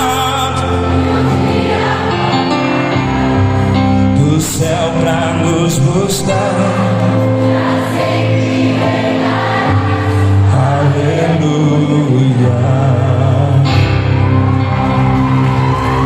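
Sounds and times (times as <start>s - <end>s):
voices singing worship song: 0.0s - 14.0s.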